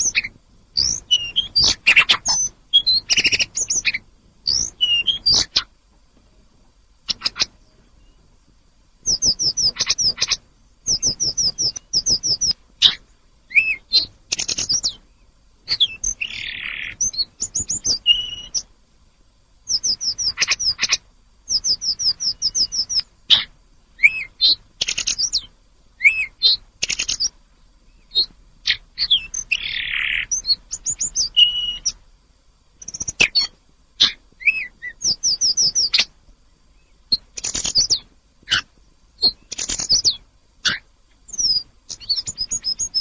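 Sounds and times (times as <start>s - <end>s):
flycatcher singing: 0.0s - 5.7s, 9.0s - 18.7s, 19.6s - 32.0s, 32.8s - 43.0s.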